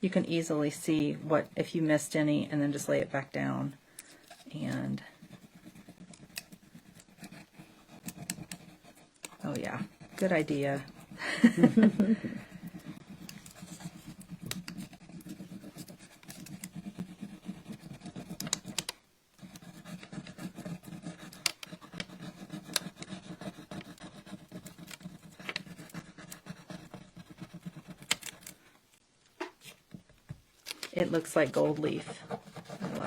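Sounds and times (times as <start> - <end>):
stick scratching on foil: 4.1 - 28.7, 31.0 - 33.0.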